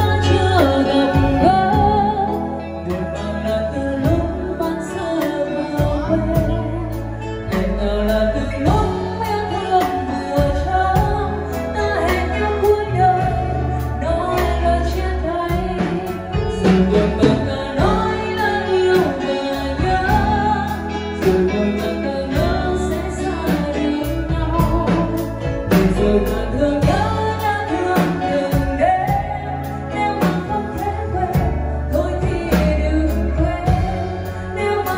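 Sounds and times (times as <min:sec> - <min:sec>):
bass line: 0:00.0 - 0:34.9
guitar: 0:00.0 - 0:34.9
keyboard: 0:00.0 - 0:34.9
person singing: 0:00.0 - 0:34.9.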